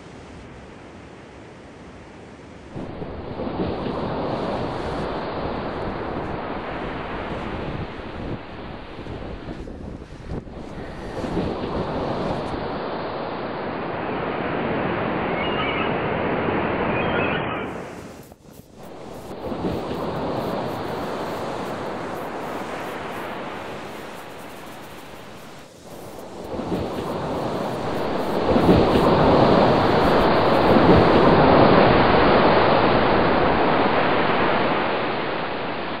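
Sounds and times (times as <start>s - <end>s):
ocean surf rushing: 2.6s - 36.0s.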